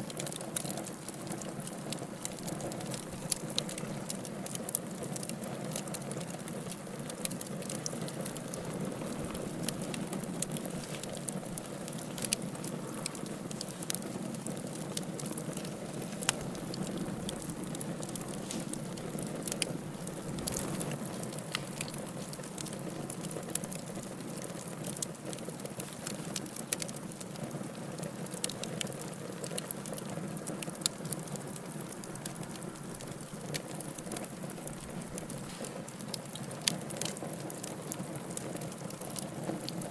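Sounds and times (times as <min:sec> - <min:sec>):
fire crackling and popping: 0:00.0 - 0:39.9
wood fire burning: 0:00.0 - 0:39.9.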